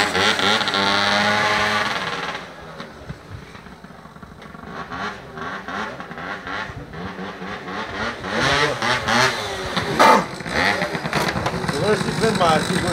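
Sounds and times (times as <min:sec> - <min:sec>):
scooter engine revving: 0:00.0 - 0:12.9.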